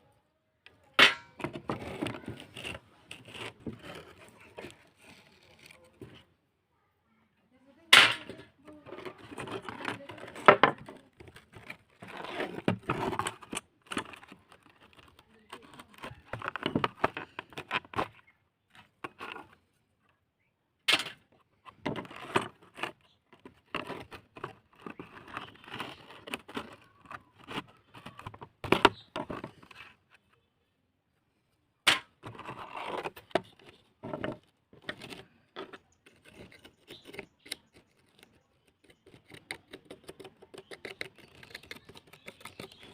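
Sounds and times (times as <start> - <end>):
small parts and tools handled: 0.7 - 6.3, 8.0 - 19.7, 21.0 - 30.4, 32.0 - 42.9.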